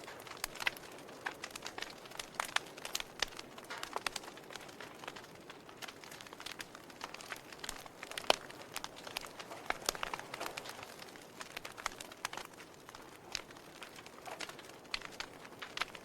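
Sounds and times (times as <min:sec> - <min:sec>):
logs crackling and popping: 0:00.0 - 0:16.0.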